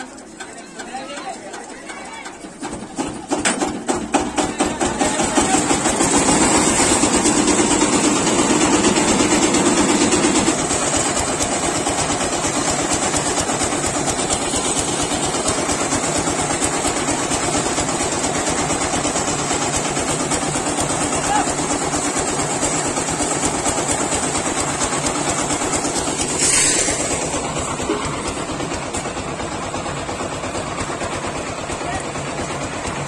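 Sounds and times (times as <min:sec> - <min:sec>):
diesel engine starting and running: 0:00.0 - 0:33.0.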